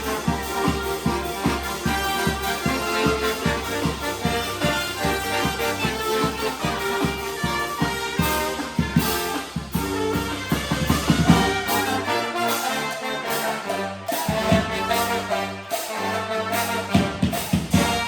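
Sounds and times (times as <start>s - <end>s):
brass band playing: 0.0s - 18.0s
drums: 0.0s - 18.0s.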